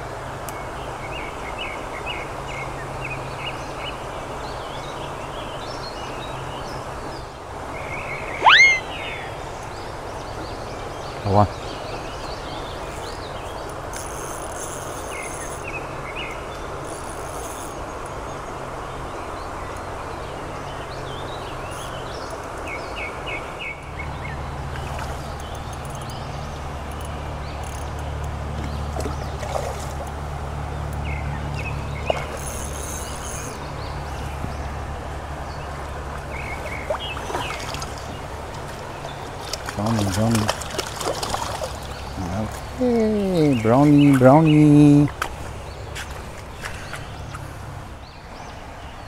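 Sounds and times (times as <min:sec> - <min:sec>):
stream water running: 0:00.0 - 0:49.0
birds chirping: 0:00.5 - 0:49.0.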